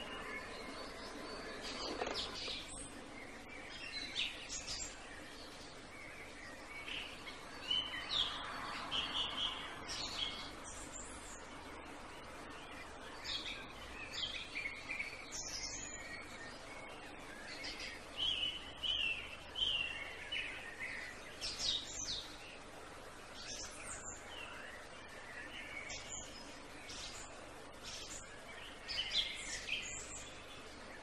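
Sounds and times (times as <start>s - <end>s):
outdoor background noise: 0.0s - 31.0s
songbirds chirping: 0.0s - 31.0s.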